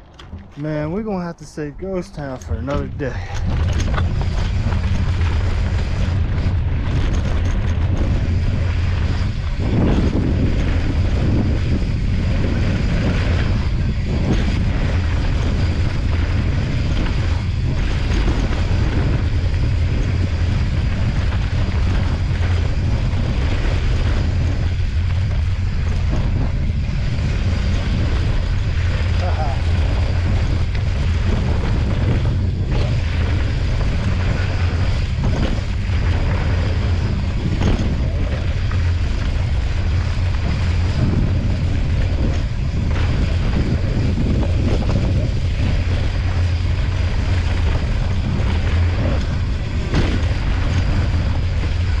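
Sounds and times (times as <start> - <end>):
bike tyres rattling over dirt: 0.0 - 52.0
wind rush on microphone: 0.0 - 52.0.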